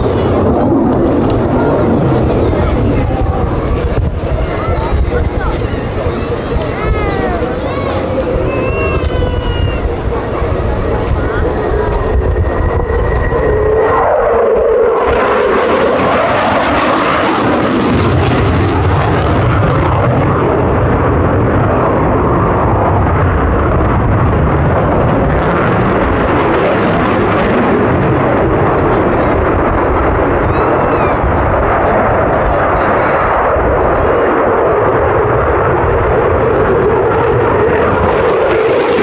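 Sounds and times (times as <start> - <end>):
jet engine rush: 0.0 - 39.0
jet whine gliding down: 0.0 - 39.0.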